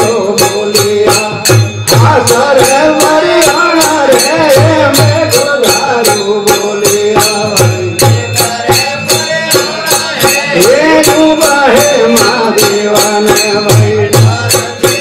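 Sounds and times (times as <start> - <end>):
jingling metal percussion: 0.0 - 15.0.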